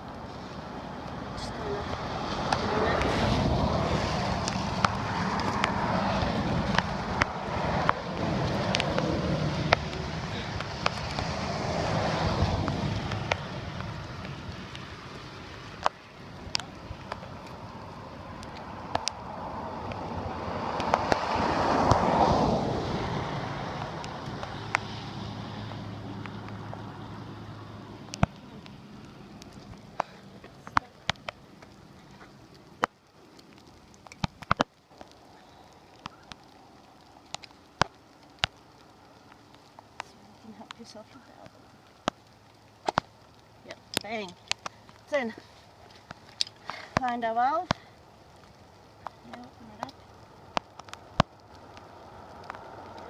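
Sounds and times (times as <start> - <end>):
road traffic passing: 0.0 - 53.0
bicycle tyre clicks and knocks: 1.9 - 27.2, 28.0 - 53.0.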